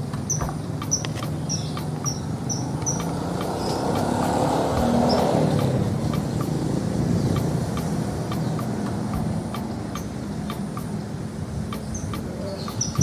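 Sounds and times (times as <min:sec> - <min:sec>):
bird chirping: 0:00.0 - 0:13.0
motor engine droning: 0:00.0 - 0:13.0.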